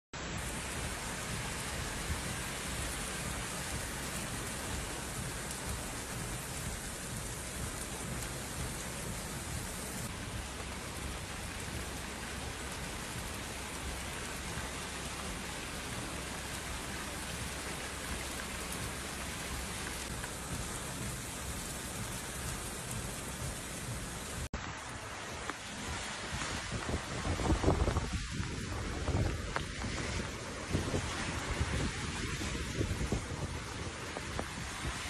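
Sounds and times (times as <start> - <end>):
heavy rain: 0.2 - 35.0.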